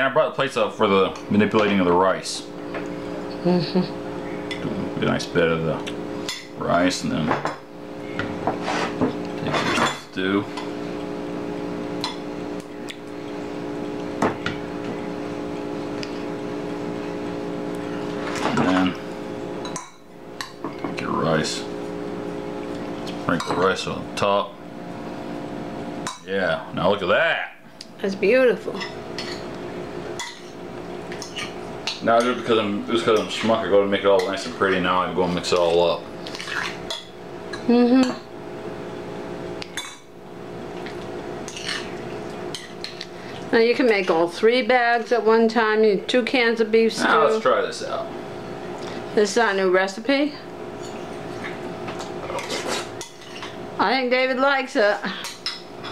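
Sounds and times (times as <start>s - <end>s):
steady hum: 0.0s - 55.9s.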